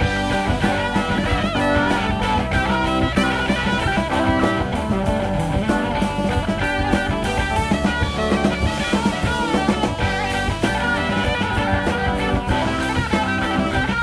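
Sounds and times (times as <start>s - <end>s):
progressive rock instrumental: 0.0s - 14.0s.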